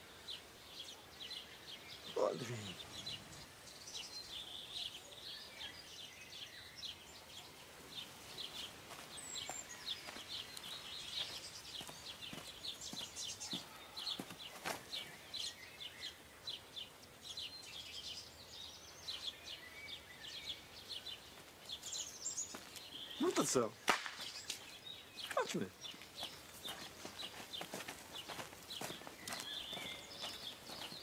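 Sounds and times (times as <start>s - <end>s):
faint outdoor hiss: 0.0s - 31.0s
small birds chirping: 0.0s - 31.0s.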